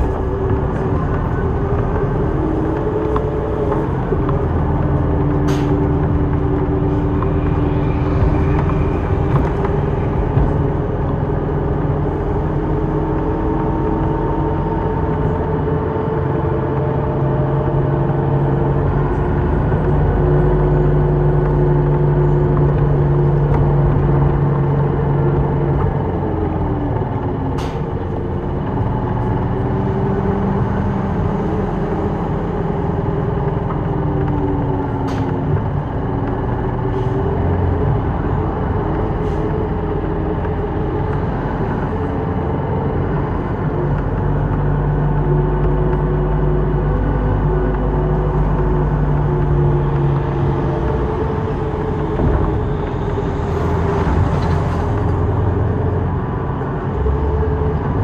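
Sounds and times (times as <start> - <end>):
bus engine hum: 0.0 - 58.0
tyre and road noise: 0.0 - 58.0.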